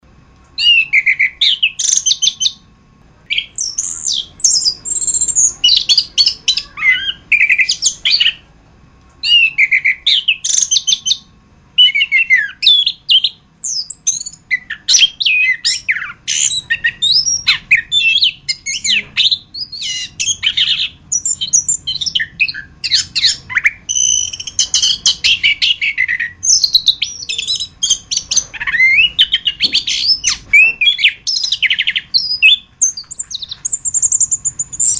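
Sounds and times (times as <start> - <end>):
thrush singing whistled notes: 0.6 - 2.6, 3.3 - 8.5, 9.2 - 34.9.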